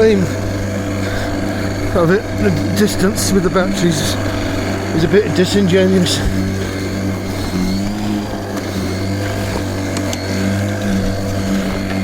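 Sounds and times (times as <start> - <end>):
electric lawnmower humming: 0.0 - 12.0.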